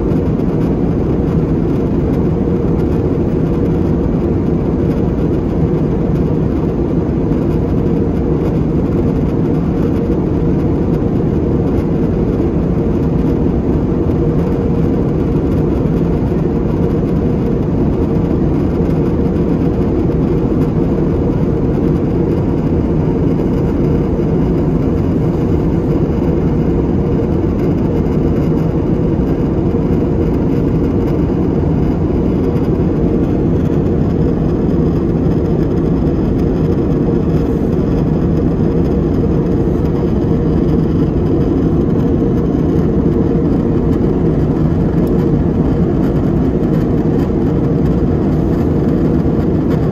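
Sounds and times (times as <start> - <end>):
jet engine cabin drone: 0.0 - 49.9.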